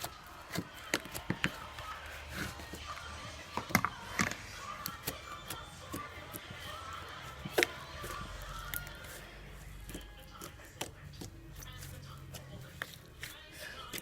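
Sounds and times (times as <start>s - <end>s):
faint background murmur: 0.0s - 14.0s.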